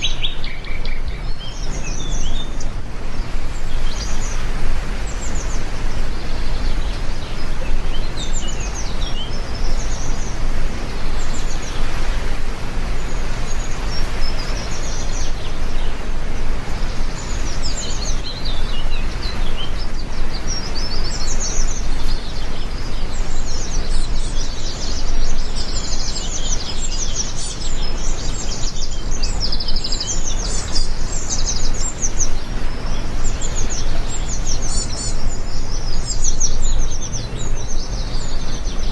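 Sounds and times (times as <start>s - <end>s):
birds chirping and twittering: 0.0s - 38.9s
heavy rain: 0.0s - 38.9s.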